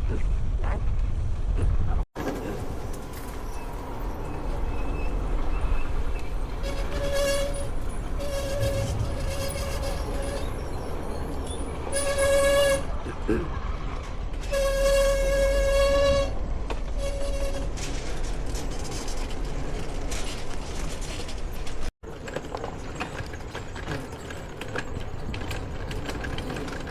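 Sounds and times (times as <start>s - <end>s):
engine and wind rumble: 0.0s - 26.9s.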